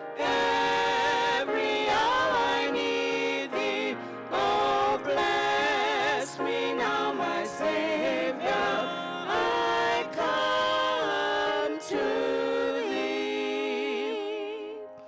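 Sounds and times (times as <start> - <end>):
women singing hymn in harmony: 0.0 - 15.0.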